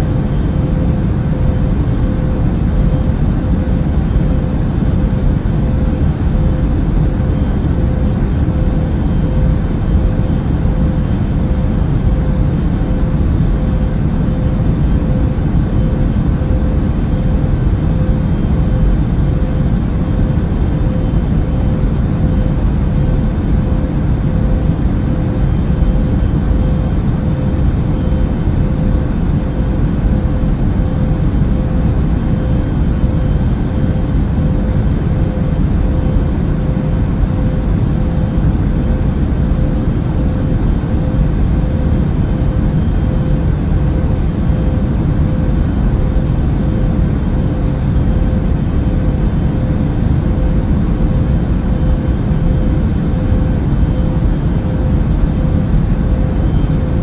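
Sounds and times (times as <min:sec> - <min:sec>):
deep engine and air drone: 0:00.0 - 0:57.0
faint constant hum: 0:00.0 - 0:57.0.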